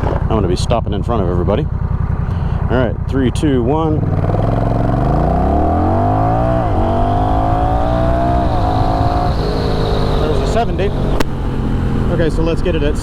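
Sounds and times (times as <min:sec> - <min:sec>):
motorcycle engine accelerating hard: 0:00.0 - 0:13.0.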